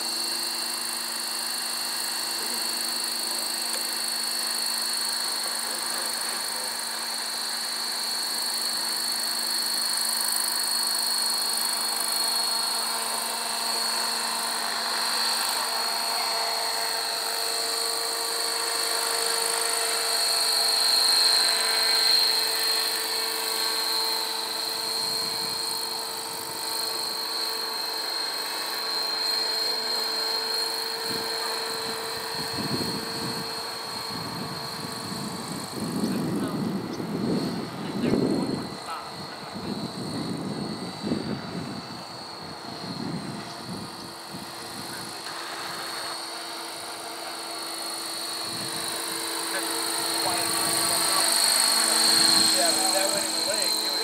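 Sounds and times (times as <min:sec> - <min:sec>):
high-pitched motor and gear whine: 0:00.0 - 0:54.0
model helicopter rotors whirring: 0:00.0 - 0:54.0.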